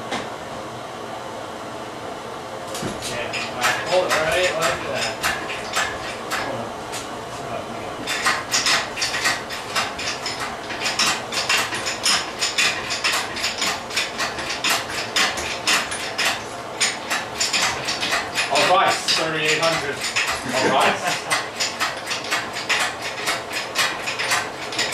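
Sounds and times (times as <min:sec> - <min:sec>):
metallic clicking and clanking of tools: 0:02.8 - 0:06.5, 0:08.1 - 0:24.9.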